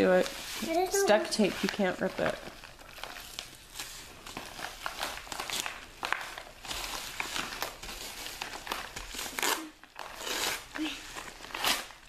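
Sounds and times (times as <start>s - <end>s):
padded envelopes crinkling: 0.0s - 12.0s.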